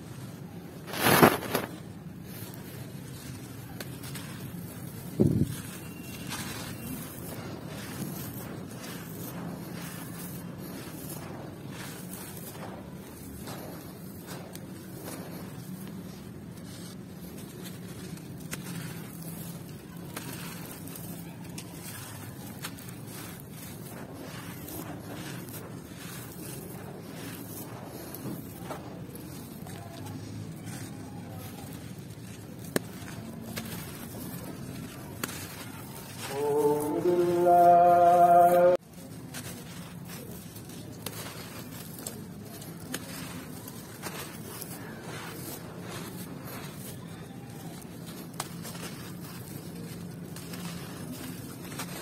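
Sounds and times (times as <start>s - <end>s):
hands crushing and pouring sand: 0.0s - 52.0s
small stones clicking: 0.4s - 37.3s, 38.4s - 52.0s.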